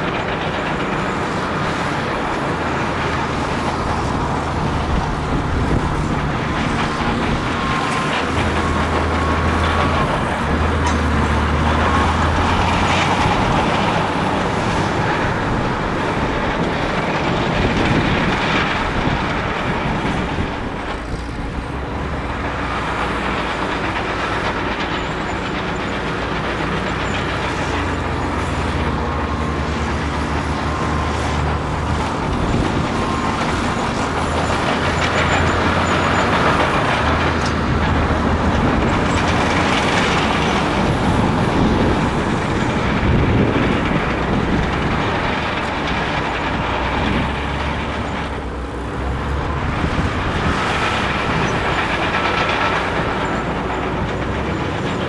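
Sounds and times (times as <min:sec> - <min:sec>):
bulldozer diesel engine running: 0:00.0 - 0:55.0
clatter of knocks: 0:00.0 - 0:55.0.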